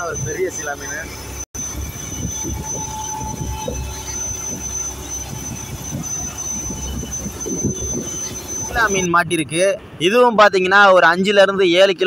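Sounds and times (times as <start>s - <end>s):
faint high whine: 0.0s - 11.9s
boat engine low rumble: 0.0s - 12.0s.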